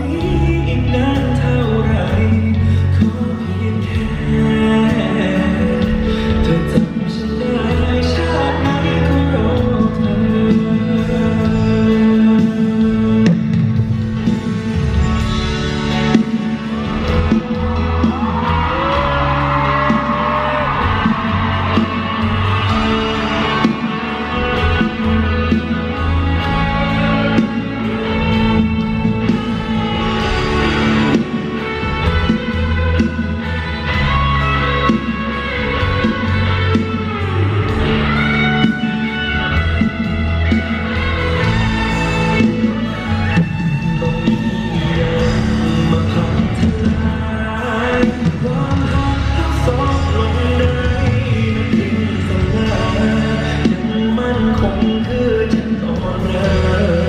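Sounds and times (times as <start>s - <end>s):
audience screaming and cheering: 0.0s - 57.0s
guitar: 0.0s - 57.0s
live band music: 0.0s - 57.0s.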